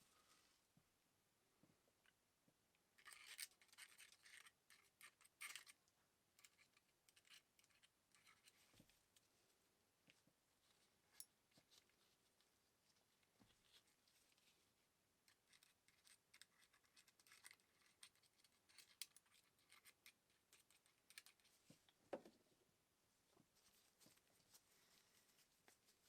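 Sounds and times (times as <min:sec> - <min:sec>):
faint scratching with clicks: 0:02.8 - 0:22.0, 0:23.3 - 0:26.0.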